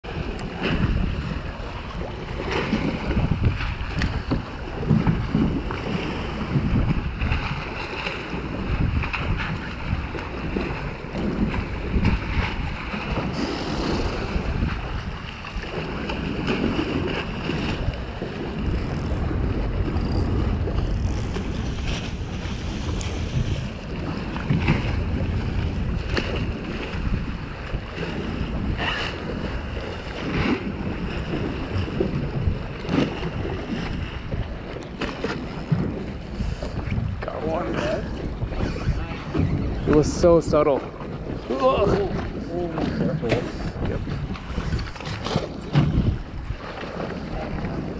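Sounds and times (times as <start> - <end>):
water slapping against pilings: 0.0 - 47.9
wind buffeting microphone: 0.0 - 47.9.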